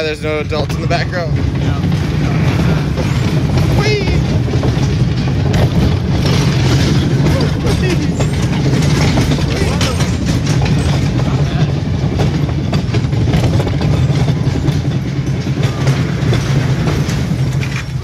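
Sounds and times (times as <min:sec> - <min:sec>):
clatter over rail joints: 0:00.0 - 0:18.0
coaster wheels rumbling: 0:00.0 - 0:18.0.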